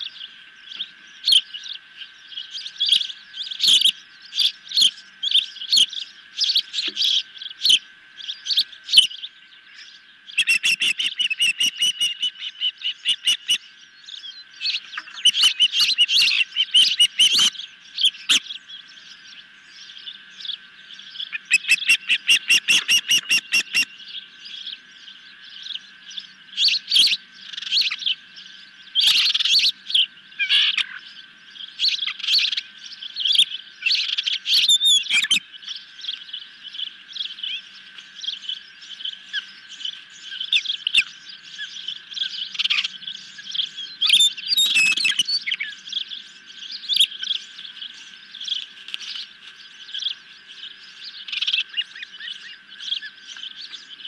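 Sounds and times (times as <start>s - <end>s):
young birds chirping: 0.0s - 54.0s.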